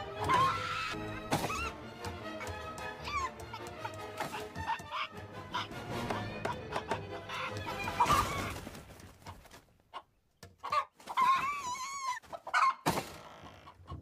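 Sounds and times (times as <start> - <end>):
hen clucking and squawking: 2.4 - 14.0.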